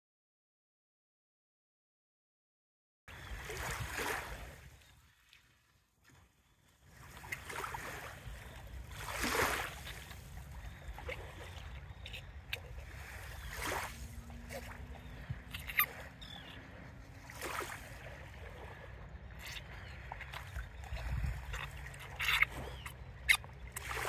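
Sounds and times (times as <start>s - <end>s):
water sloshing and splashing: 3.1s - 24.0s.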